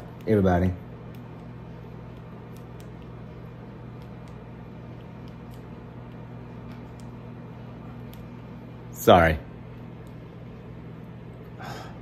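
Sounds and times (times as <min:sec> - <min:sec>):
microwave oven hum: 0:00.0 - 0:12.0.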